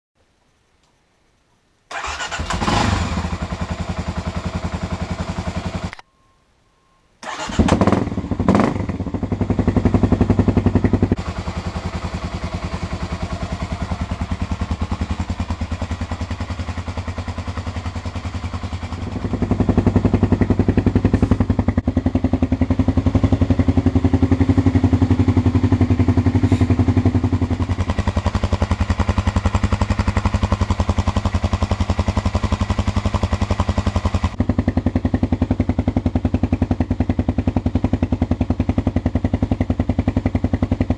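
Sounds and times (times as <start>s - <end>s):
dirt bike engine: 1.9s - 6.0s, 7.2s - 40.9s.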